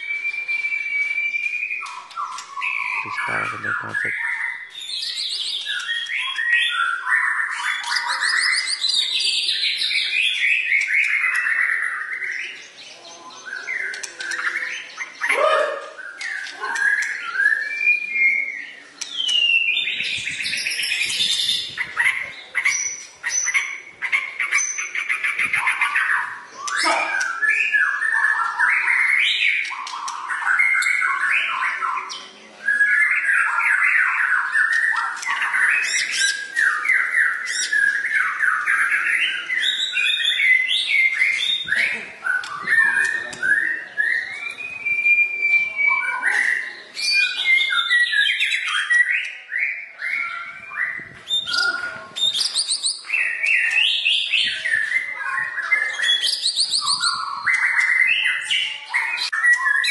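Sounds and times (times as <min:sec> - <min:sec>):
songbird singing whistled phrases: 0:00.0 - 0:59.9.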